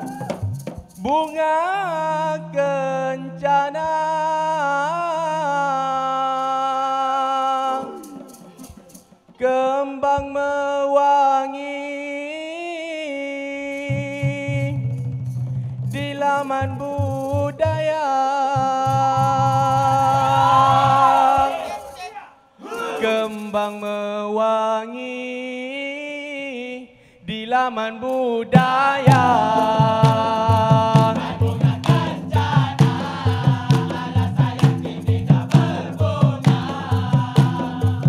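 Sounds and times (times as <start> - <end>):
man singing into a microphone: 1.0 - 8.6, 9.4 - 15.0, 15.9 - 21.6, 22.8 - 34.6.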